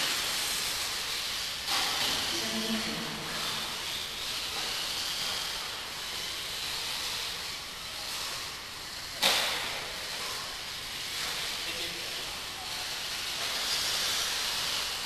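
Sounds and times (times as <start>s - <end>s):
rc buggy motors whining: 0.0s - 15.0s.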